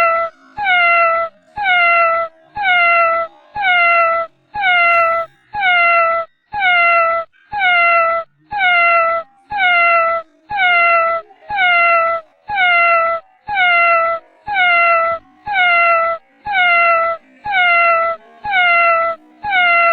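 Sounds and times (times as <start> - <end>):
cat meowing: 0.0 - 19.9.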